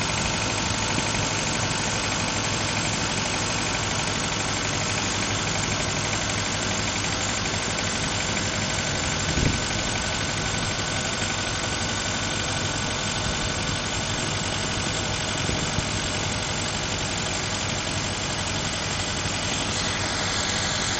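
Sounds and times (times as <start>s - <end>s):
car engine idling with knock: 0.0s - 20.9s.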